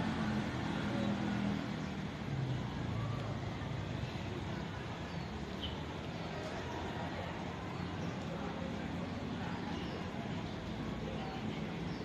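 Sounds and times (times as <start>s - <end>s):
faint voices: 0.0s - 12.0s
road traffic: 0.0s - 12.0s.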